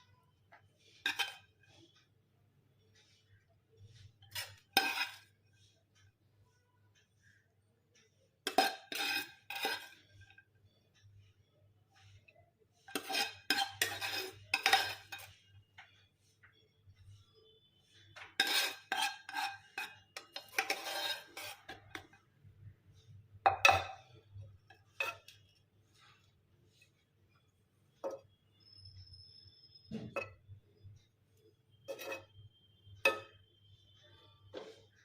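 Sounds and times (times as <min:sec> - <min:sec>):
spoon scraping a cooking pot: 0:00.1 - 0:02.2, 0:02.9 - 0:35.0.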